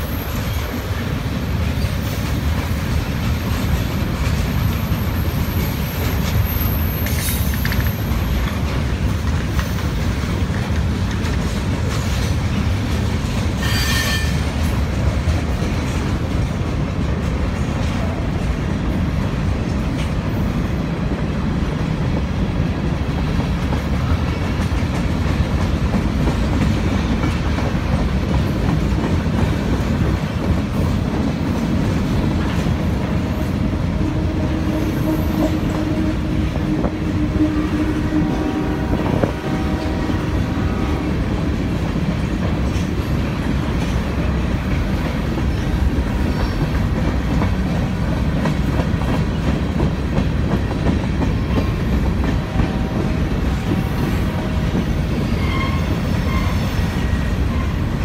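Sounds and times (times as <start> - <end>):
train wheels rumbling on rails: 0.0 - 58.0
wheels clacking over rail joints: 0.4 - 20.7, 21.6 - 58.0.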